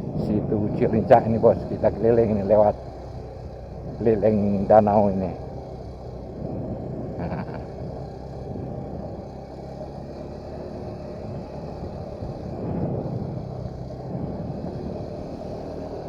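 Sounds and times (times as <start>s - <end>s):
motorcycle engine running: 0.0s - 16.0s
wind rumble on microphone: 0.0s - 16.0s.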